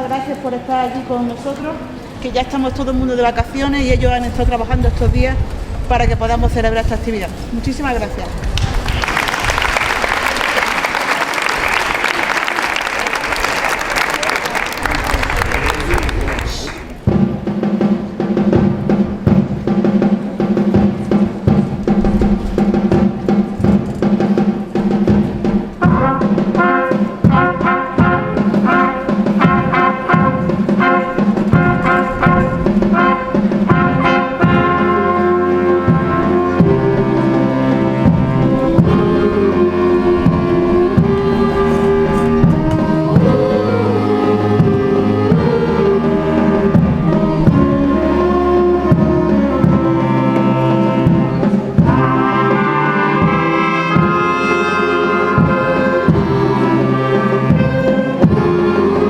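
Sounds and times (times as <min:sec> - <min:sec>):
live instrumental ensemble music: 0:07.0 - 0:59.0.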